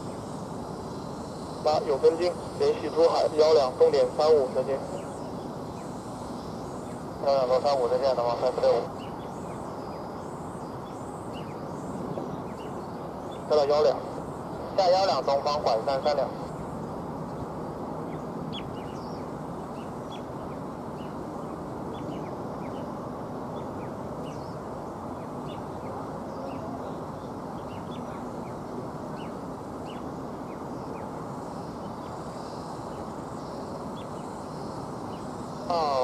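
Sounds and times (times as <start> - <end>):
distant airport noise: 0.0 - 36.0
small birds chirping: 0.0 - 36.0.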